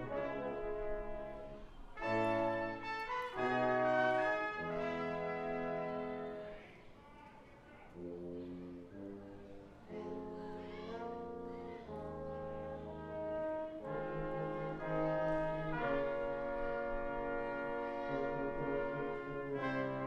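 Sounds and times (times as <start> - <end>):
brass quintet playing chords: 0.0 - 6.6, 7.9 - 20.0
tuba bass line: 0.0 - 6.6, 8.0 - 20.0.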